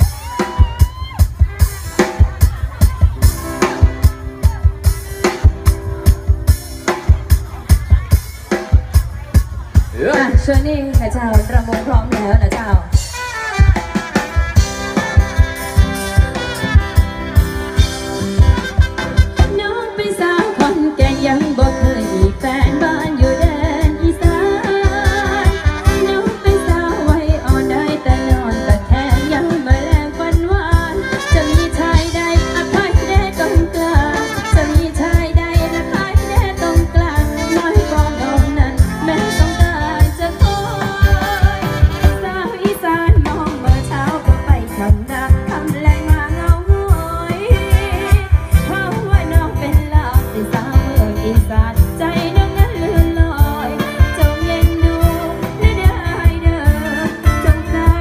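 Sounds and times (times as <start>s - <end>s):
live band music over loudspeakers: 0.0s - 58.0s
steady drum beat: 0.0s - 58.0s.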